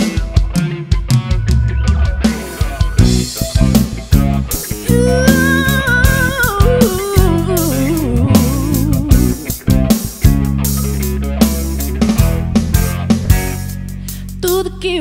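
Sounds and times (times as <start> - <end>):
guitar melody bending in pitch: 0.0 - 14.0
drum kit: 0.0 - 14.8
bass: 0.0 - 15.0.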